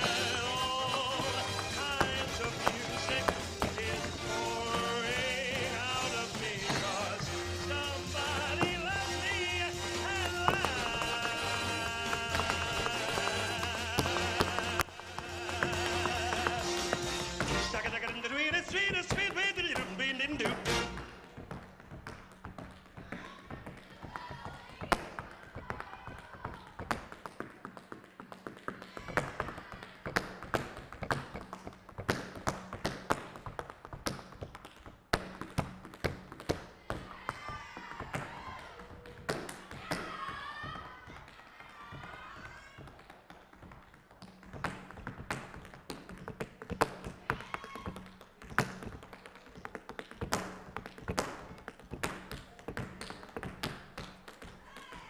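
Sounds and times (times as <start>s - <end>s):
tap shoes on stage floor: 0.0s - 55.0s.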